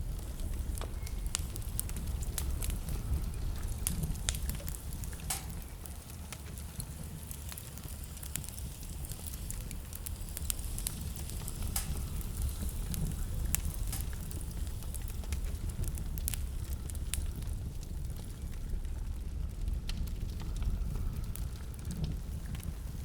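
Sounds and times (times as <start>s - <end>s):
low fire rumble: 0.0s - 23.0s
wood fire crackling and popping: 0.0s - 23.0s.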